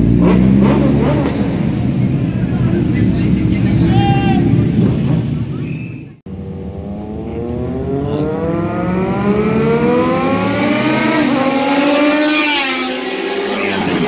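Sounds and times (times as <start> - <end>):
motorbike engines accelerating: 0.0 - 14.0
motorbike passing close: 0.0 - 14.0.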